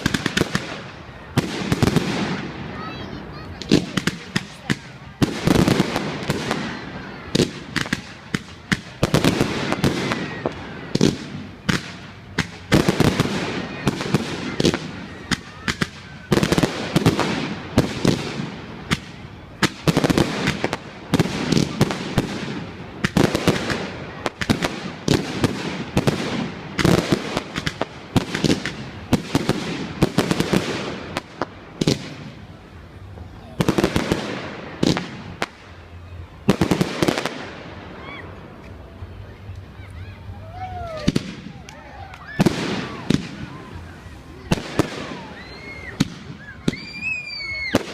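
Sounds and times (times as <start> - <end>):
fireworks bangs and crackling: 0.0 - 39.7, 40.4 - 47.9
faint fireworks whistles: 0.0 - 47.9.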